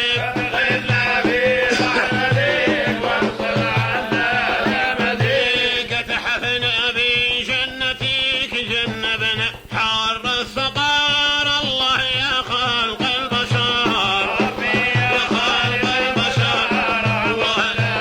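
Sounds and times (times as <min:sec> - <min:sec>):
man chanting: 0:00.0 - 0:04.2, 0:04.9 - 0:18.0.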